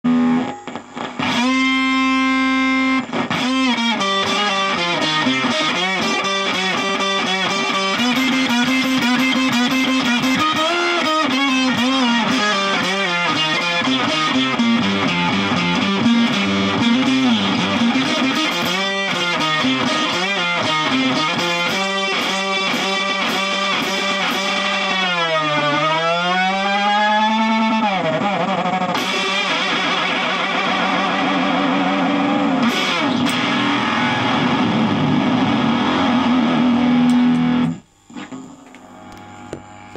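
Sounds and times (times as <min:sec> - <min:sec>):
amplifier hum: 0:00.0 - 0:28.4, 0:29.0 - 0:39.9
fuzzy electric guitar lead: 0:00.0 - 0:39.9.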